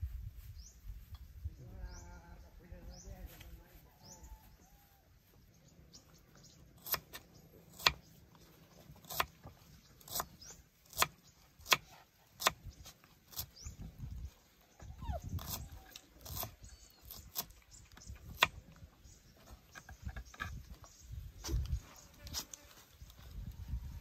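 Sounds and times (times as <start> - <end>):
faint bird chirps: 0.2 - 24.0.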